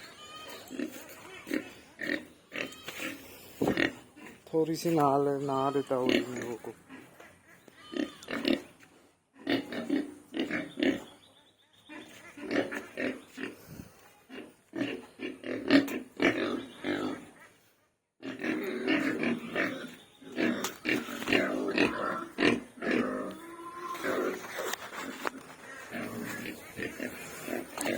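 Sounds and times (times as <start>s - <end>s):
pigs grunting: 0.0s - 11.2s, 11.9s - 17.5s, 18.2s - 27.9s.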